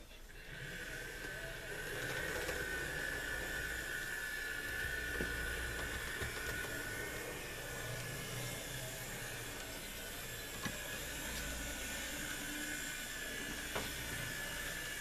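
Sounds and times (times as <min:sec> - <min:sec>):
model train motor whirring: 0:00.3 - 0:15.0.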